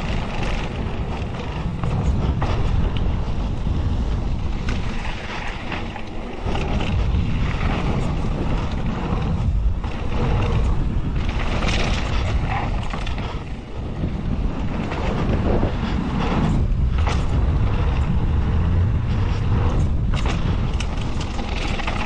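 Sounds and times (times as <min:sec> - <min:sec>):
bike tyres rolling on dirt trail: 0:00.0 - 0:22.0
wind buffeting microphone: 0:00.0 - 0:22.0.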